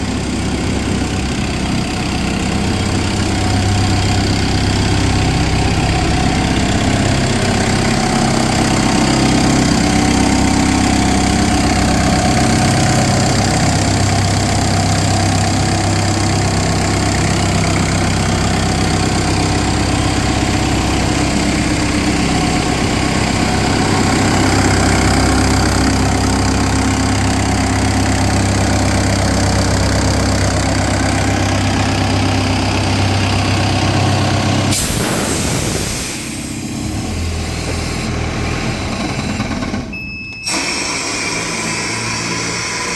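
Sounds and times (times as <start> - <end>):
air compressor diesel engine running: 0.0 - 42.9.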